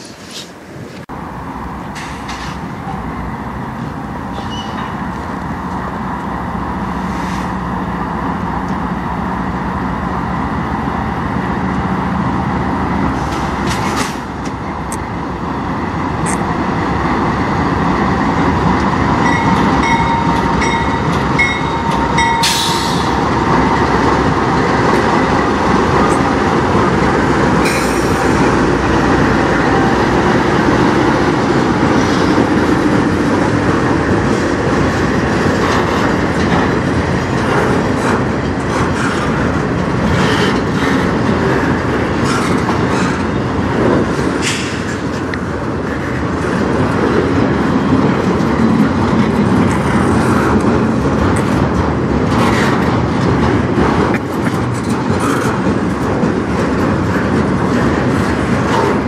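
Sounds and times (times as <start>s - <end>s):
diesel locomotives passing: 0.0s - 59.0s
rolling train: 0.0s - 59.0s.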